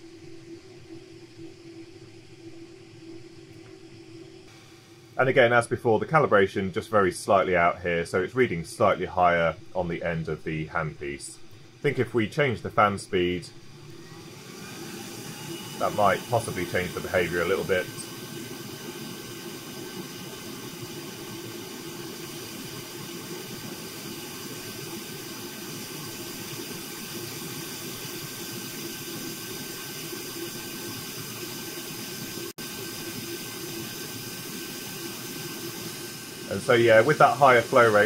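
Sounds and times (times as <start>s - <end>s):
hot air tool blowing air: 0.0s - 6.3s, 11.2s - 38.0s.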